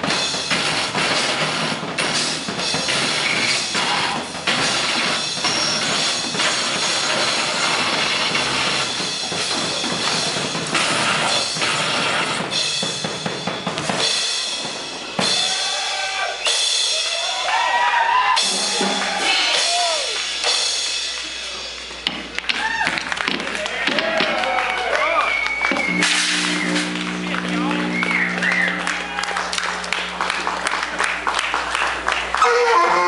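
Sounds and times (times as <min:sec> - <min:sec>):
pounding drums: 0:00.0 - 0:17.2, 0:18.4 - 0:24.4, 0:25.7 - 0:31.3
harsh noise music: 0:00.0 - 0:24.7, 0:25.4 - 0:33.0.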